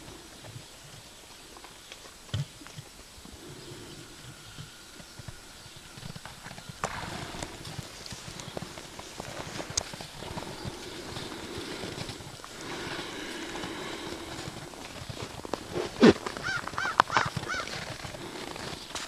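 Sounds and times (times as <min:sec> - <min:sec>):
horse hoofbeats on snow: 0:00.0 - 0:19.0.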